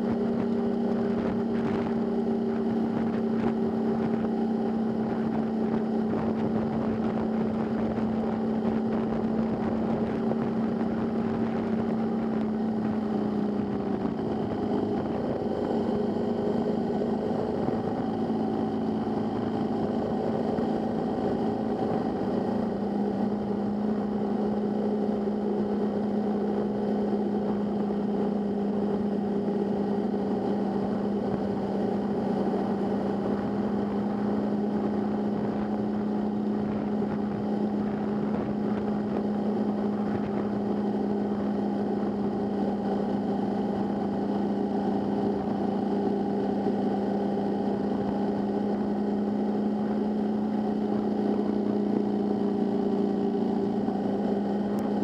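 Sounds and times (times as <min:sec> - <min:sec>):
motorcycle engine cruising: 0:00.0 - 0:55.0.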